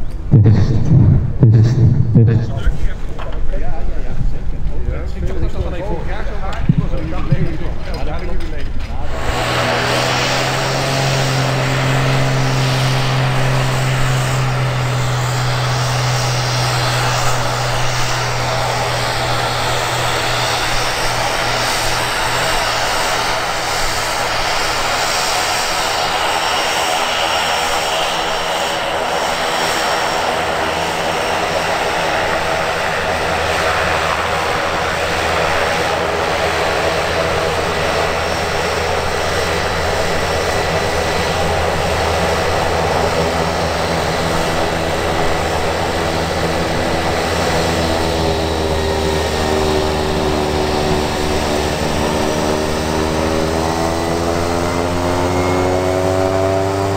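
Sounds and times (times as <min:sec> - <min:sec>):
turboprop engine running: 0:00.0 - 0:56.9.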